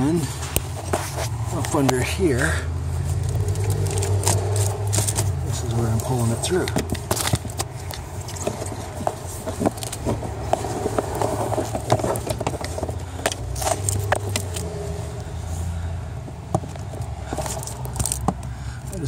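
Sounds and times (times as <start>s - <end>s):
wire scraping through rubber grommet: 0.1s - 15.7s, 16.7s - 19.0s.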